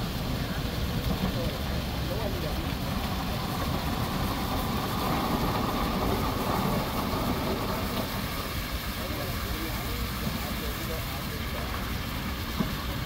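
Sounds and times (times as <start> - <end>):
fire truck engine running: 0.0 - 13.0
water stream hissing: 0.0 - 13.0.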